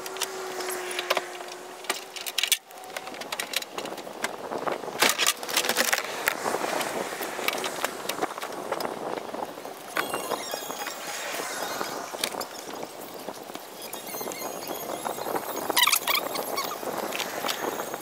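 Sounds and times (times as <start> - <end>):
kayak clicks and rattles: 0.0 - 18.0.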